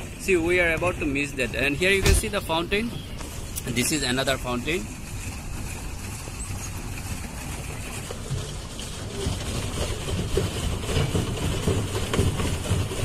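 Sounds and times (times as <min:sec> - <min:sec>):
paddle wheel churning water: 0:00.0 - 0:13.0.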